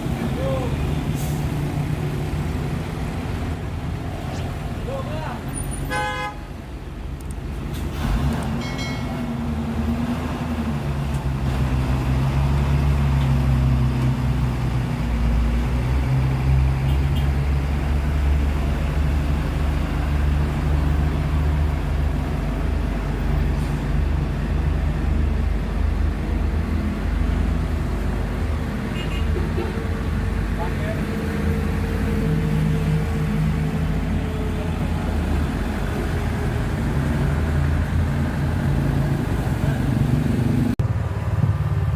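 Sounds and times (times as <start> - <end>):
road traffic noise: 0.0 - 41.9.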